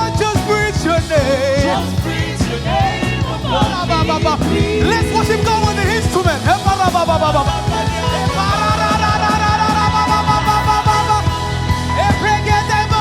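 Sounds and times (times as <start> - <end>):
band with drums and bass: 0.0 - 13.0
person singing: 0.0 - 13.0.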